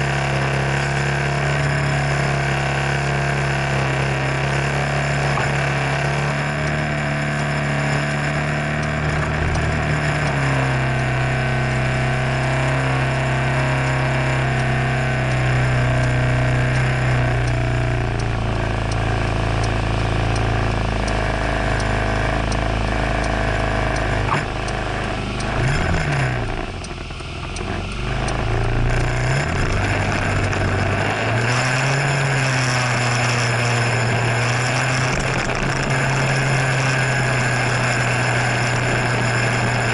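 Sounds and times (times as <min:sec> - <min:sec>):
scooter engine idling and revving: 0:00.0 - 0:39.9.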